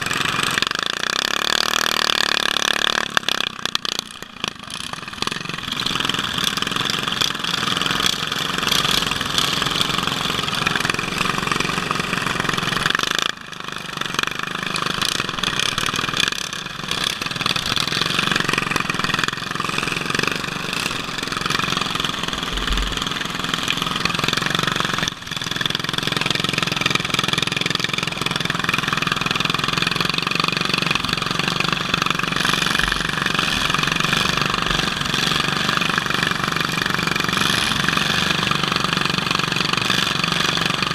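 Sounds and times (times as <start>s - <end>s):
other mower engines: 0.0s - 40.9s
tractor engine running hard: 0.0s - 40.9s.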